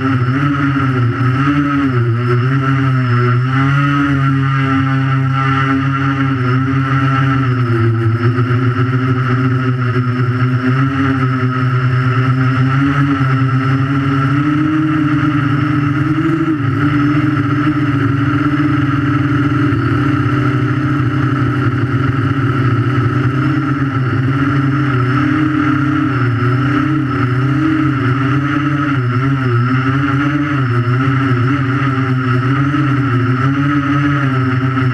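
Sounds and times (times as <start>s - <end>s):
quadcopter motors whining: 0.0s - 34.9s.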